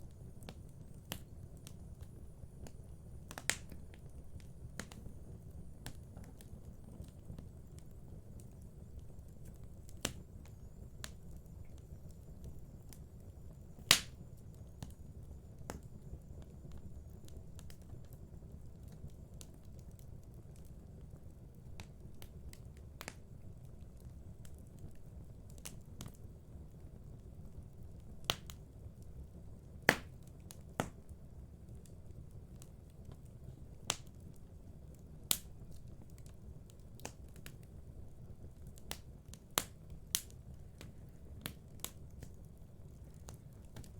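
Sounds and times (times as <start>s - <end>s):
fire crackling: 0.0s - 43.9s.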